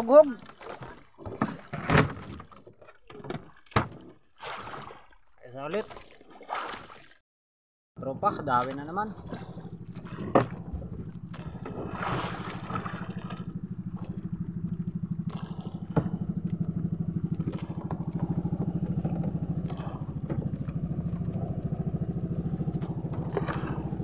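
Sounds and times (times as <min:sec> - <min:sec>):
small boat engine putter: 0:00.0 - 0:06.2, 0:08.0 - 0:24.0.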